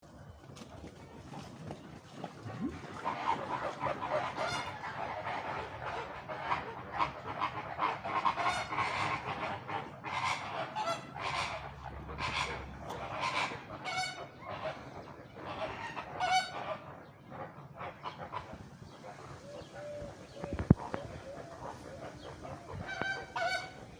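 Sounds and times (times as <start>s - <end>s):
flamingos honking: 2.5s - 23.9s.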